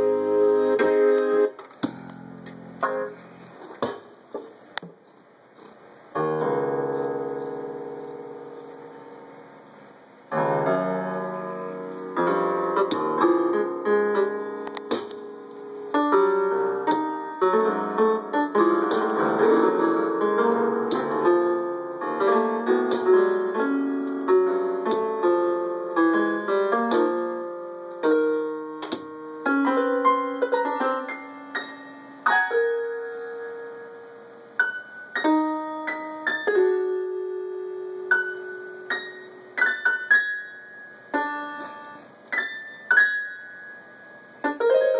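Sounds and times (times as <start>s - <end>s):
electric piano notes and chords: 0.0s - 4.4s, 5.6s - 44.9s.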